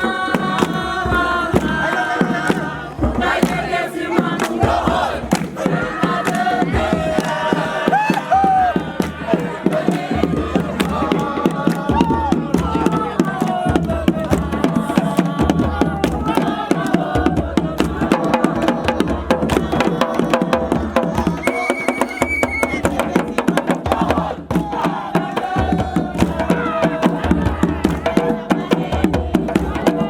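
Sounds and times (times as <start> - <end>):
fast drumming: 0.0 - 30.0
group of voices chanting: 0.0 - 30.0.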